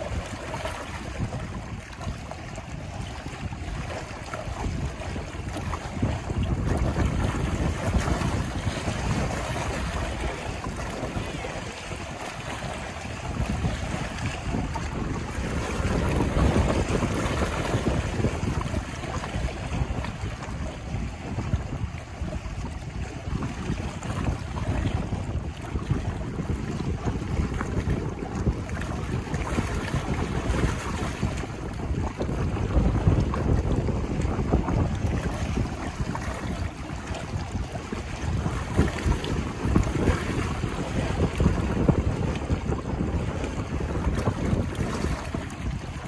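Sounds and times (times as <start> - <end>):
waves splashing against rocks: 0.0 - 46.0
wind buffeting microphone: 0.0 - 46.0.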